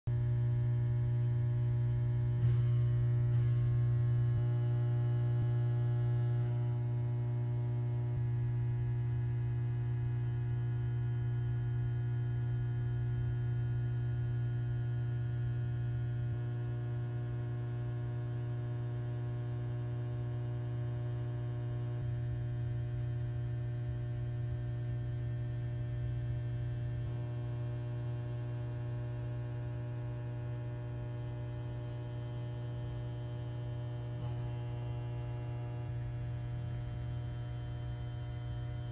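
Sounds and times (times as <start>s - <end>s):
steady low hum: 0.1s - 38.9s.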